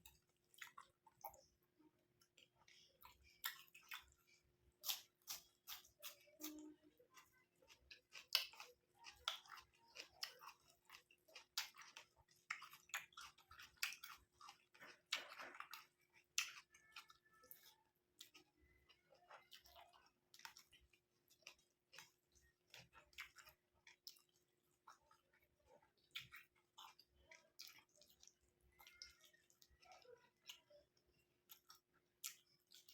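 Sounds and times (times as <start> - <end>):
chewing and lip smacks: 0.0 - 32.9.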